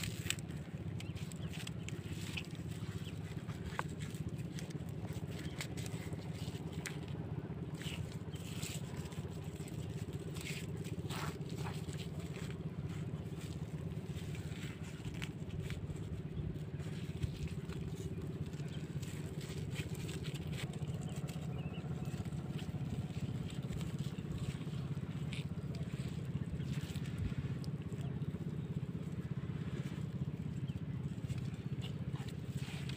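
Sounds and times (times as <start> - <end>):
low steady rumble: 0.0 - 32.9
squelches and scrapes in mud: 0.0 - 32.9.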